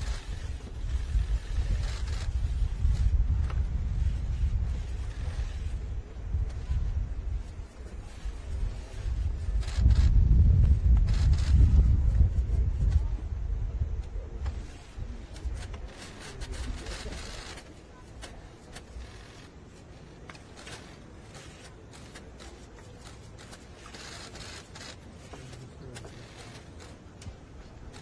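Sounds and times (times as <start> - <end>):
paper and pens scraping: 0.0 - 13.1, 14.4 - 28.0.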